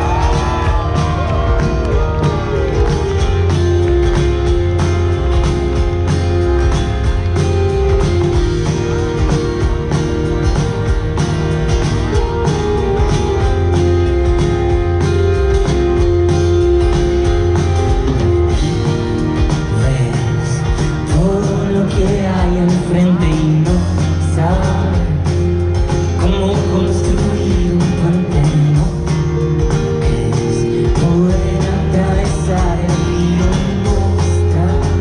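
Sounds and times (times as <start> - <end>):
band playing live: 0.0 - 35.0.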